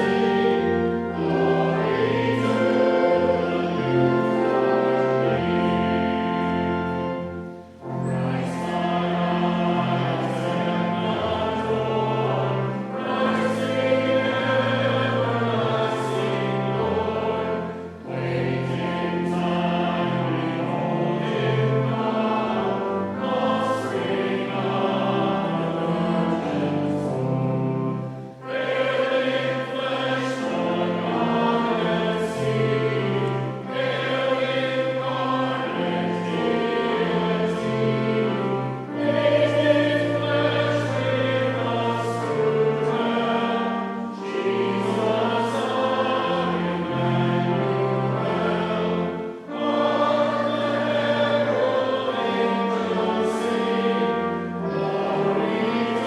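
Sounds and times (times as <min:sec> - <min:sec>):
choir singing: 0:00.0 - 0:56.0
instrumental accompaniment: 0:00.0 - 0:56.0.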